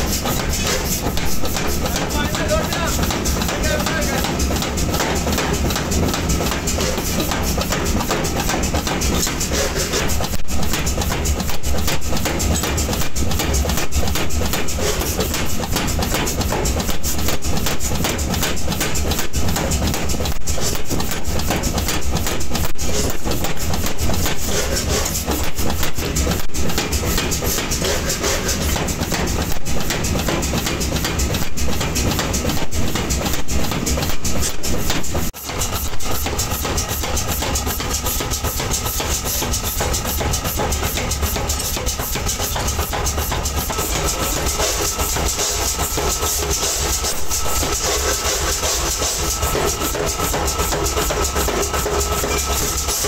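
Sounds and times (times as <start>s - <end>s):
machinery rattling clatter: 0.0s - 53.0s.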